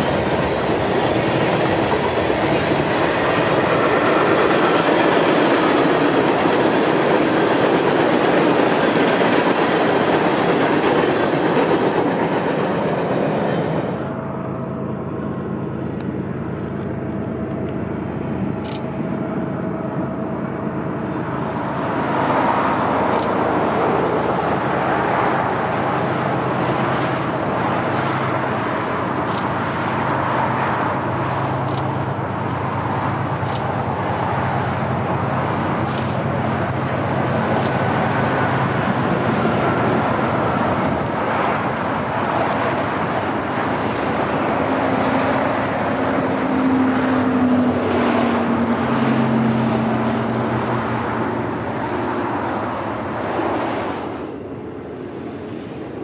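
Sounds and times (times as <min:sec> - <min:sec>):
train engine hum: 0:00.0 - 0:56.0
train wheels rumbling on rails: 0:00.0 - 0:56.0.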